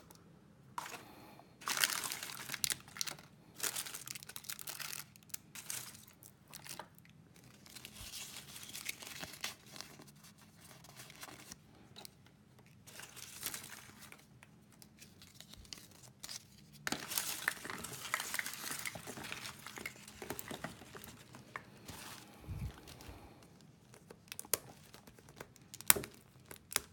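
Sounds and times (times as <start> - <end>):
foil wrappers crinkling and tearing: 1.6 - 11.6, 12.8 - 26.9.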